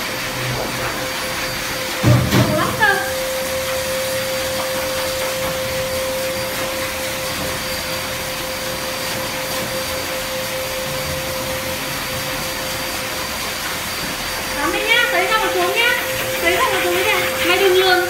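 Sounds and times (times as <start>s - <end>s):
pet blower dryer whining: 0.0s - 18.0s.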